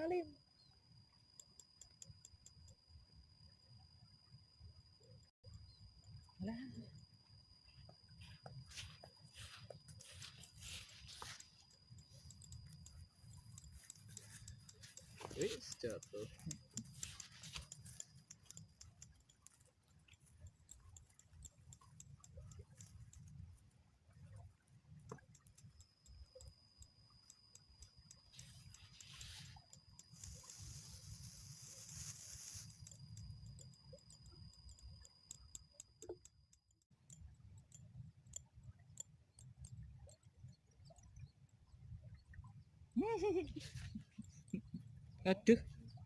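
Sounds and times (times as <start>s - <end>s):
thin steady high tone: 0.0s - 23.4s, 25.1s - 37.8s, 43.0s - 46.0s
faint ticks: 0.0s - 46.0s.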